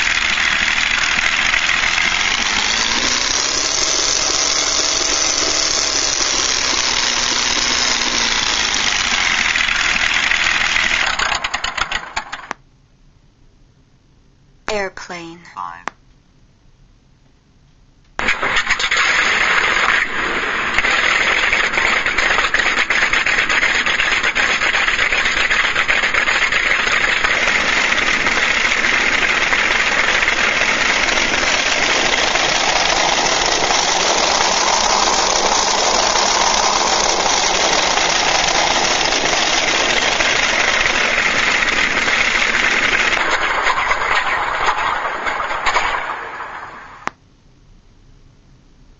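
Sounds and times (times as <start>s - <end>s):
simulated warplane engine: 0.0s - 12.6s, 18.2s - 47.1s.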